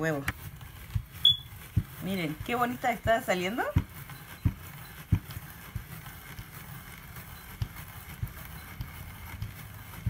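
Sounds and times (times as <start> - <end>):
hand-crank spiralizer turning: 0.0 - 10.0.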